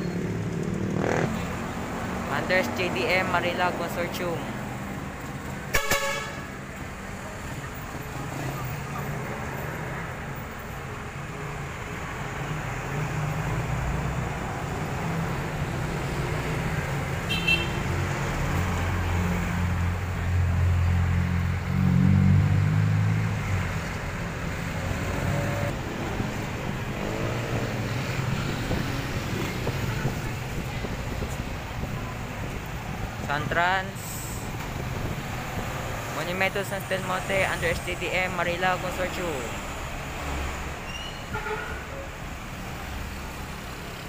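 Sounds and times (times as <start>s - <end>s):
passing vehicle engines: 0.0s - 44.0s.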